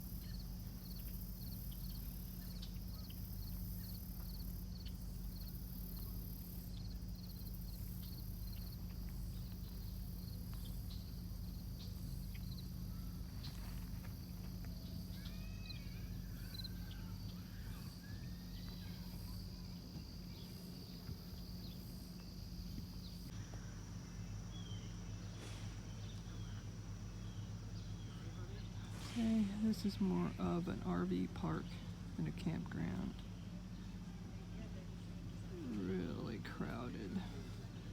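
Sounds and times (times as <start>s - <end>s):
insects trilling: 0.0s - 37.9s
low hum: 0.0s - 37.9s.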